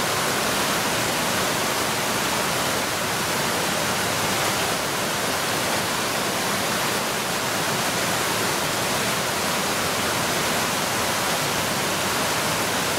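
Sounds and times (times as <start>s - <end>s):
stream rushing over rocks: 0.0s - 12.9s.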